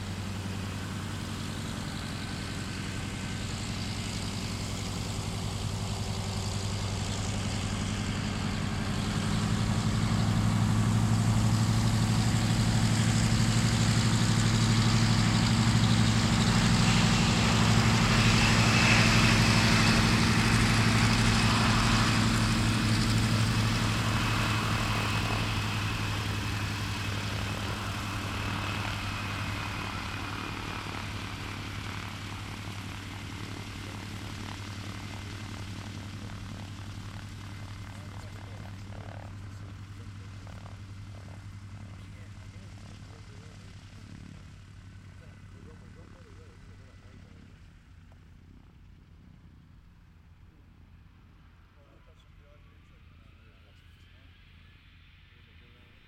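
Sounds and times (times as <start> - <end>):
aircraft engines droning: 0.0 - 56.0.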